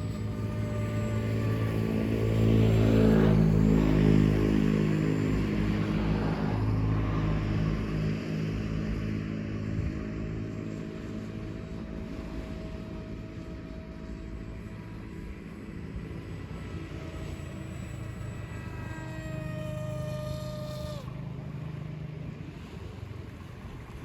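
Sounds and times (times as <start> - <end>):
model glider motor buzzing: 0.0 - 24.0.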